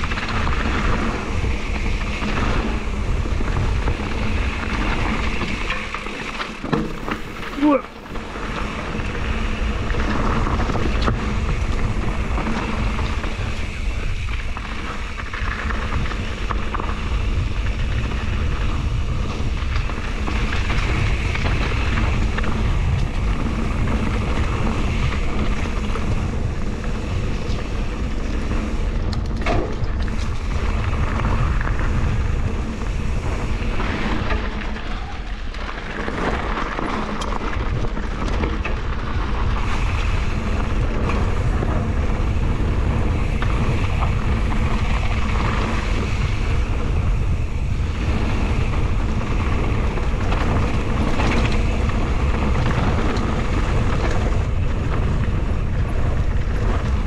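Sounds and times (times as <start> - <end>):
bike rattling over bumps: 0.0 - 57.0
bike tyres on dirt: 0.0 - 57.0
wind rushing over microphone: 0.0 - 57.0.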